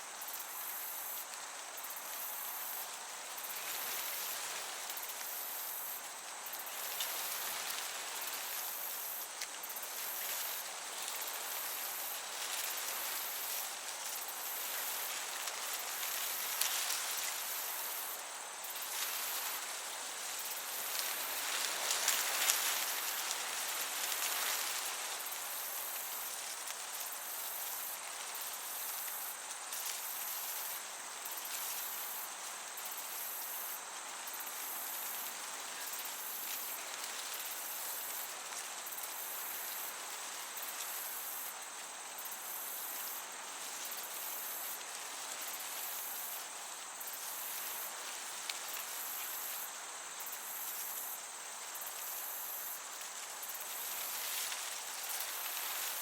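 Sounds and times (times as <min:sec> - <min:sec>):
breeze hiss: 0:00.0 - 0:56.0
crickets chirping: 0:00.0 - 0:56.0.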